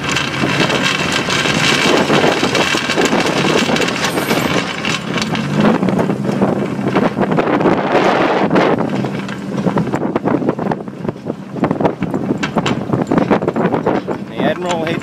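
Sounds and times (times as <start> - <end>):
engine running: 0.0 - 15.0
wind noise on microphone: 0.0 - 15.0.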